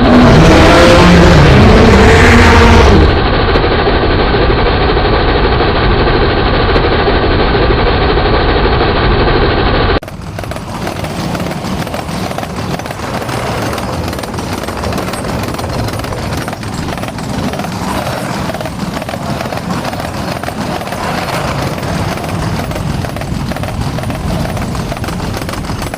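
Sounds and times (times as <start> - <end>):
dense clattering rumble: 0.0 - 25.9.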